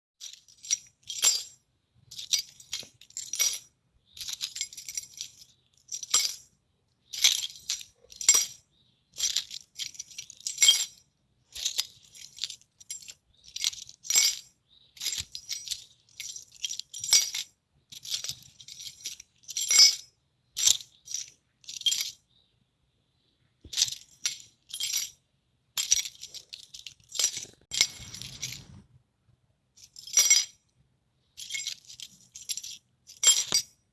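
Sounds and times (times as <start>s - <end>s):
metal keys jingling: 0.2s - 6.5s, 7.1s - 22.2s, 23.6s - 25.2s, 25.8s - 28.8s, 29.8s - 30.6s, 31.4s - 33.8s.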